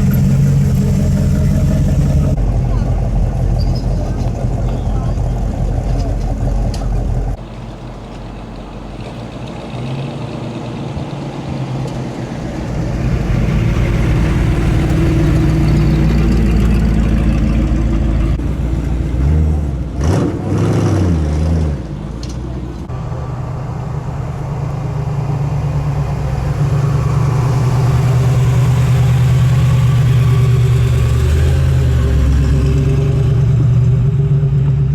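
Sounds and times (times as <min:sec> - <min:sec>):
engine revving: 0:00.0 - 0:07.4, 0:09.0 - 0:34.9
car engine rumbling: 0:00.0 - 0:34.9.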